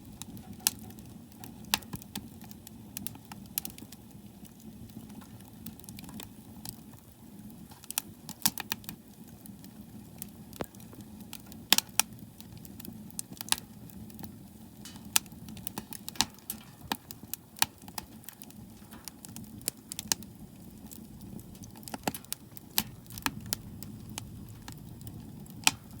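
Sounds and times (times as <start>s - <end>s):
firewood crackling and popping: 0.0s - 26.0s
low rumble of stove: 0.0s - 26.0s.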